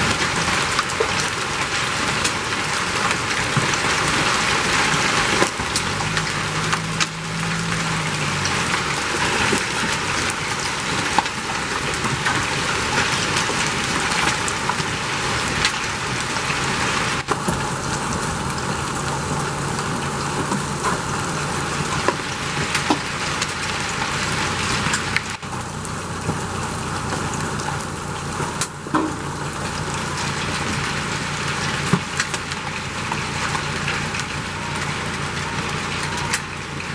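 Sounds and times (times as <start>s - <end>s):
hail and heavy rain: 0.0s - 36.9s.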